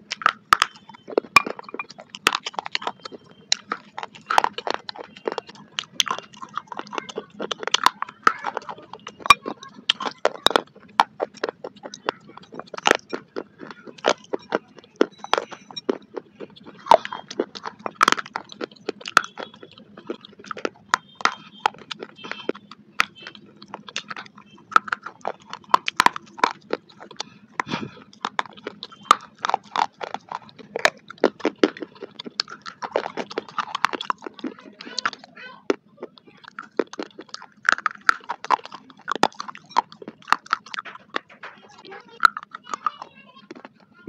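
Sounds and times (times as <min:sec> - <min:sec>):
crunching and chewing clay: 0:00.0 - 0:44.0
wet mouth sounds: 0:00.0 - 0:44.0.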